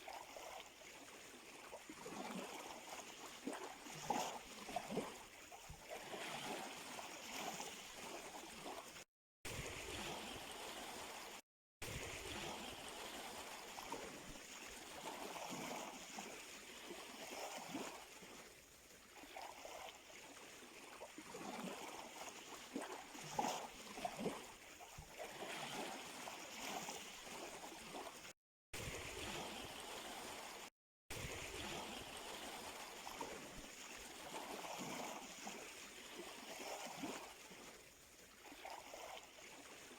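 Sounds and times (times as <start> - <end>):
sea water lapping at shore: 0.0 - 39.9.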